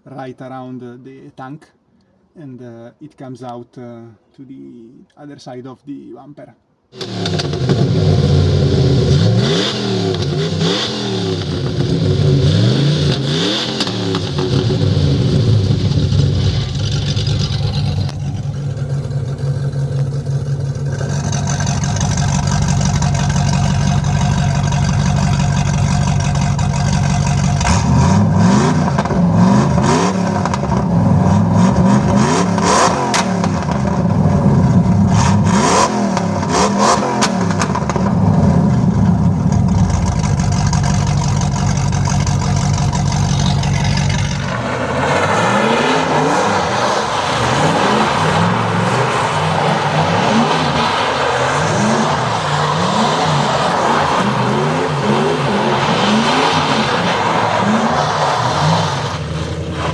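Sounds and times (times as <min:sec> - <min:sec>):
car engine idling and revving: 0:07.0 - 0:59.9.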